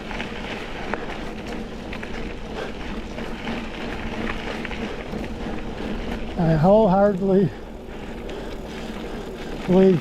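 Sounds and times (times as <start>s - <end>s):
bike tyres rolling on trail: 0.0s - 10.0s.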